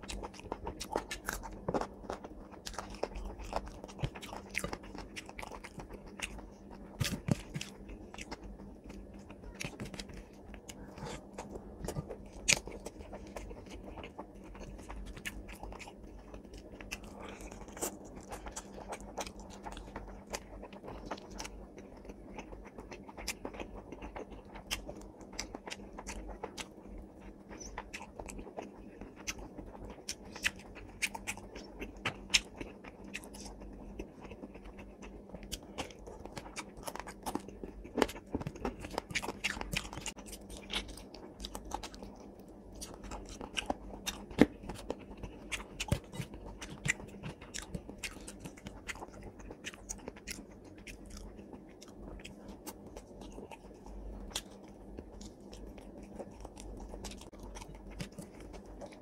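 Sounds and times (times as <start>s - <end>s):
chewing and mouth noises: 0.0s - 59.0s
faint steady hum: 0.0s - 59.0s.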